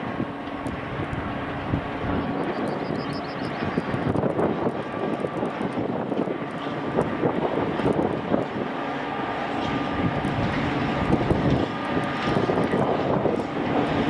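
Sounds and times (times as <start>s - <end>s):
locomotive drone: 0.0s - 14.0s.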